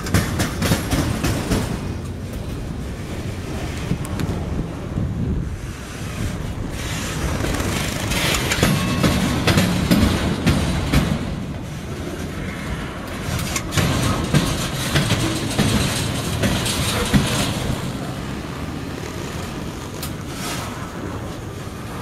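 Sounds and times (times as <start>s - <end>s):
steel wheels rumbling on rails: 0.0s - 22.0s
wheels clacking over rail joints: 0.0s - 22.0s.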